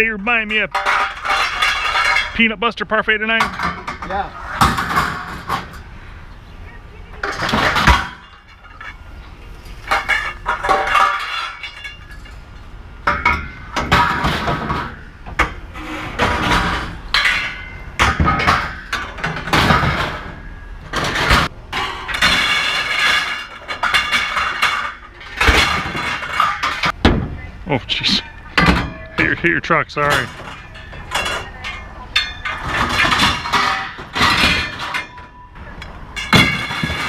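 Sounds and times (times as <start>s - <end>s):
scrap metal clanging: 0.3s - 2.6s, 3.3s - 6.0s, 7.2s - 27.0s, 28.0s - 37.0s.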